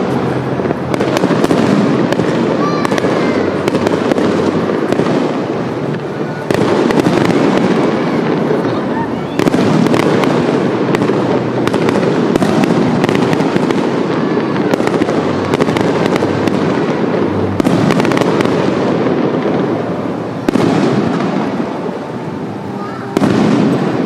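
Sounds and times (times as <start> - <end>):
fireworks bursting and crackling: 0.0 - 24.0
loud fireworks bangs: 0.0 - 24.0.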